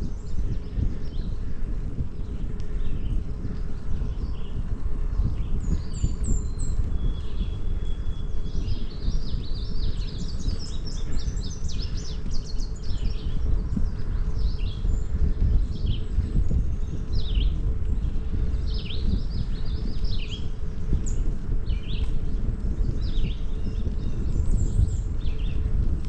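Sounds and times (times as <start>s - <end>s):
bicycle tyres on asphalt: 0.0s - 26.0s
songbirds chirping and singing: 0.0s - 26.0s
wind on microphone: 0.0s - 26.0s.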